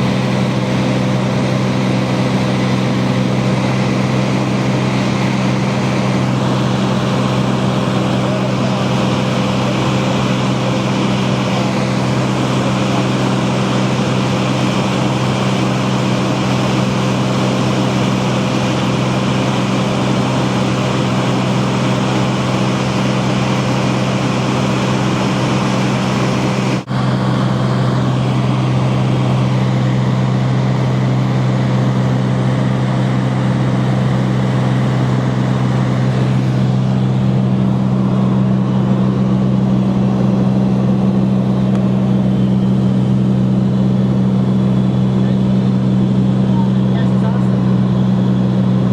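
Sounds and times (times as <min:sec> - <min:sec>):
propeller plane engine droning: 0:00.0 - 0:48.9.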